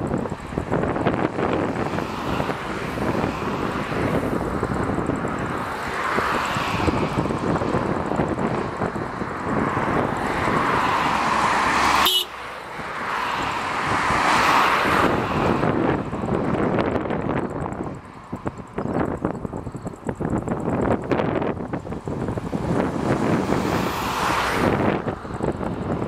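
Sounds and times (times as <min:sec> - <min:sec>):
wind buffeting microphone: 0:00.0 - 0:12.0, 0:12.6 - 0:26.0.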